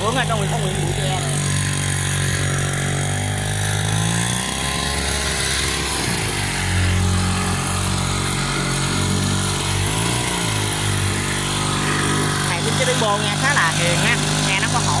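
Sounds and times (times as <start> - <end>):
two-stroke boat engine running: 0.0 - 15.0.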